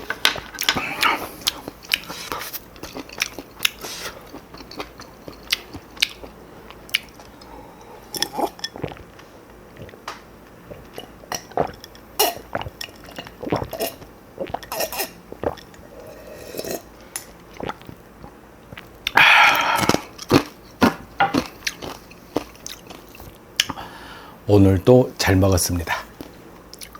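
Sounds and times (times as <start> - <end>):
crunchy chewing: 0.0 - 10.0, 10.6 - 23.8.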